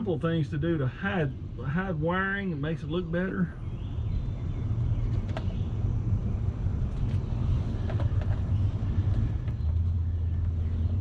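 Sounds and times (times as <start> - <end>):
motor rumbling and humming: 0.0 - 11.0.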